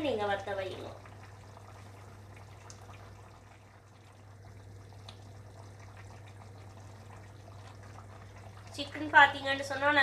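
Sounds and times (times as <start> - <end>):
curry bubbling in a pot: 0.0 - 10.0
steady low hum: 0.0 - 10.0.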